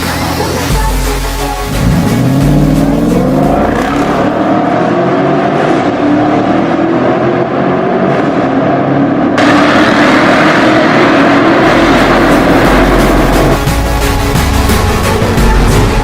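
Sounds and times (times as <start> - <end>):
car exhaust accelerating: 1.7 - 16.0.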